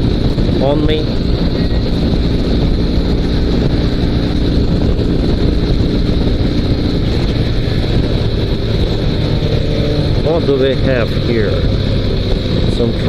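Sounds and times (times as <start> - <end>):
motorcycle engine running steadily: 0.0 - 13.0
wind noise on microphone: 0.0 - 13.0.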